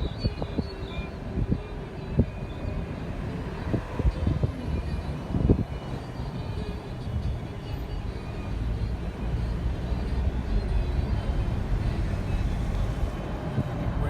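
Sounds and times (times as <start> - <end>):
motorboat engine rumble: 0.0 - 14.0.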